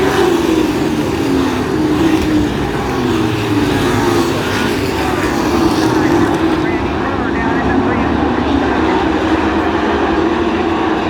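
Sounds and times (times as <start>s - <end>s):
racing truck engines: 0.0s - 11.0s.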